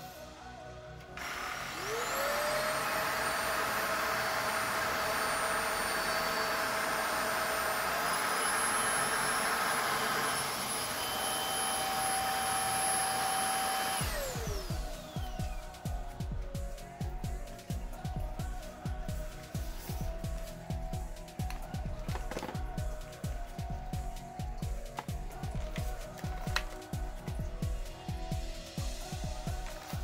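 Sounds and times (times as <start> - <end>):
stick vacuum motor whining: 1.0 - 16.6, 17.2 - 27.7, 28.3 - 30.0.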